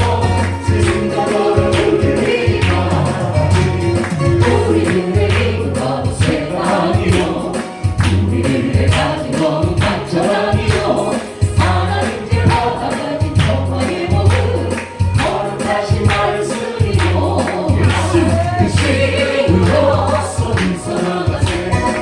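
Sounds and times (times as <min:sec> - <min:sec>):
band with bass and beat: 0:00.0 - 0:22.0
group singing praise song: 0:00.0 - 0:22.0.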